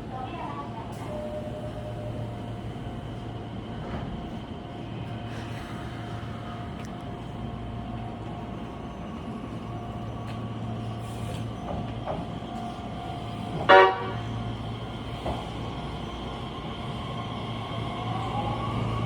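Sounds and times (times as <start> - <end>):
electric train rumbling and humming: 0.0 - 19.0.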